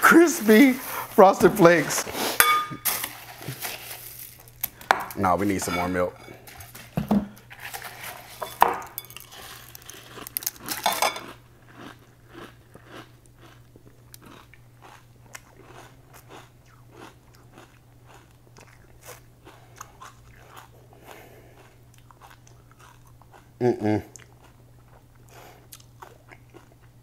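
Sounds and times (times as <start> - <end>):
chewing crunchy cereal: 3.0 - 5.3, 6.3 - 27.0.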